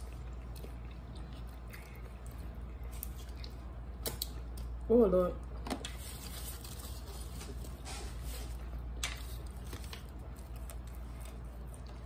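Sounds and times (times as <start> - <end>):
people chewing: 0.0 - 4.6, 6.9 - 12.0
steady low hum: 0.0 - 12.0.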